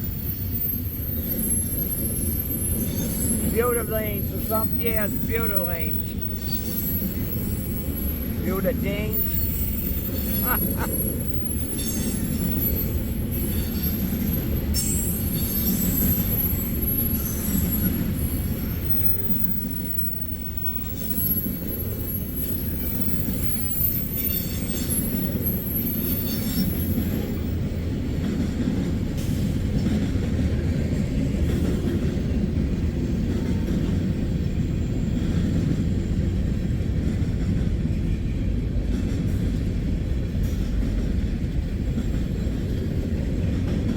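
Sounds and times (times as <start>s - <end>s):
freight train cars rumbling past: 0.0s - 43.9s.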